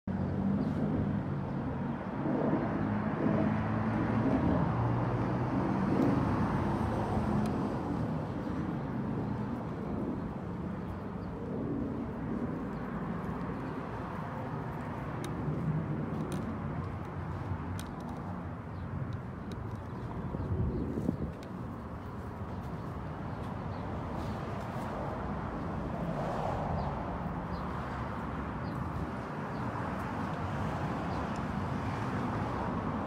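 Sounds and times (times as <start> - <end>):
traffic engine rumble: 0.1 - 33.0.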